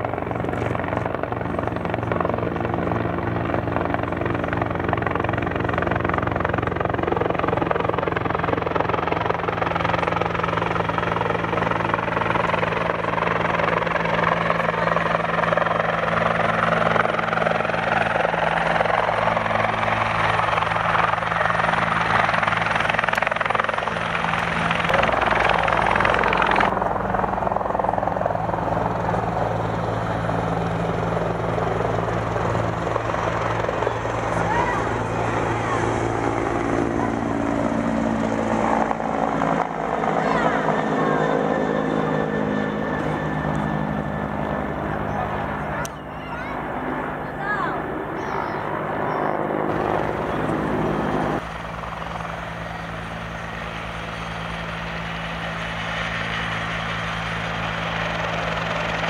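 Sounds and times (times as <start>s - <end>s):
helicopter rotor beat: 0.0s - 59.0s
turbine whine: 0.0s - 59.0s.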